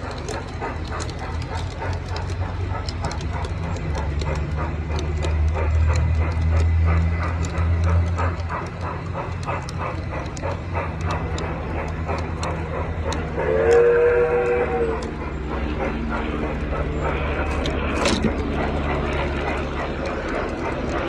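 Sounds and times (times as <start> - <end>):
clicking over rail joints: 0.0 - 21.0
train wheels rumbling: 0.0 - 21.0.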